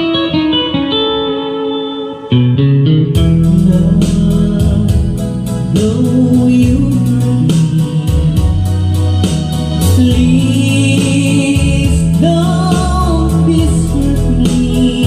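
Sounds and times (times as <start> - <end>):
loud music with bass and singing: 0.0 - 15.0.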